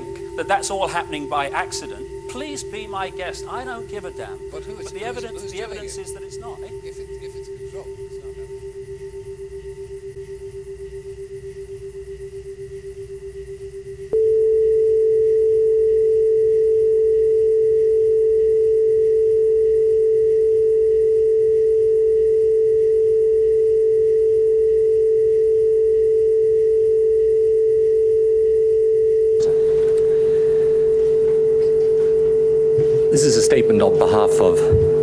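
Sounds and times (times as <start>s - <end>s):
loud steady pure tone: 0.0s - 35.0s
pulsing pure tone: 0.0s - 35.0s.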